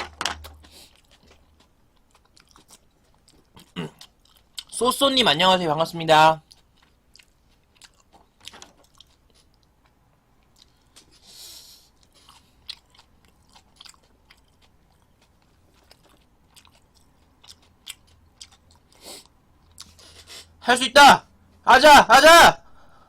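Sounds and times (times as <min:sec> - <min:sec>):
person chewing: 0:00.3 - 0:04.8, 0:06.4 - 0:20.5.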